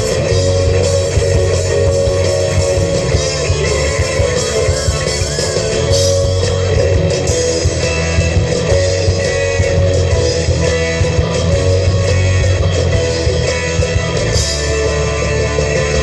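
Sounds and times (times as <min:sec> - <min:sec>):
bass: 0:00.0 - 0:16.0
drums: 0:00.0 - 0:16.0
electric guitars: 0:00.0 - 0:16.0.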